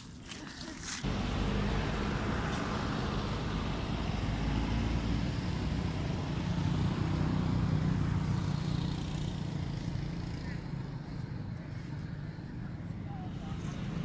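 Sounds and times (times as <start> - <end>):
motor engine humming: 1.0 - 14.0.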